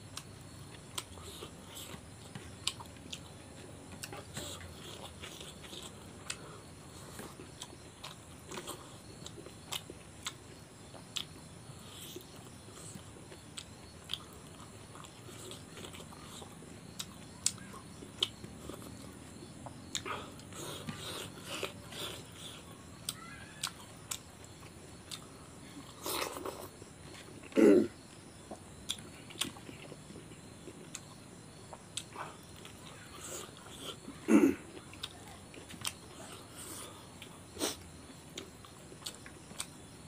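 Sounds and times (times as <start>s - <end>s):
man chewing food: 0.0s - 40.0s.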